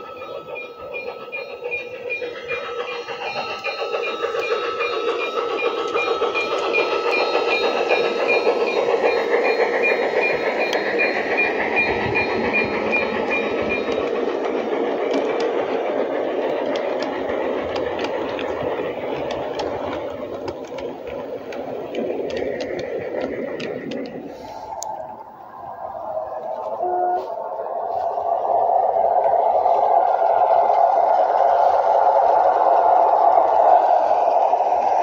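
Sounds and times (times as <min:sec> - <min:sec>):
model train rolling rumble: 0:00.0 - 0:35.0
wheels clicking over rail joints: 0:00.0 - 0:35.0.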